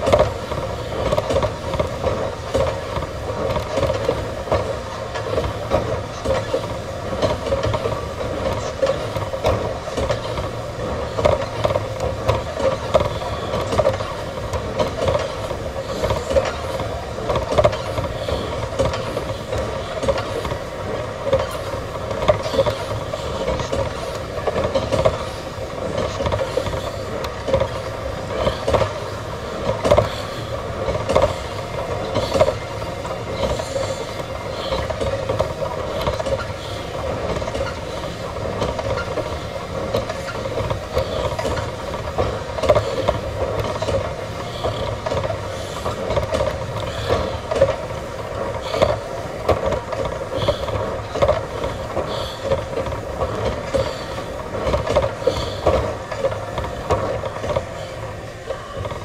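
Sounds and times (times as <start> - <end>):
cardio machine humming: 0.0 - 59.0
rhythmic rattling clatter: 0.0 - 59.0.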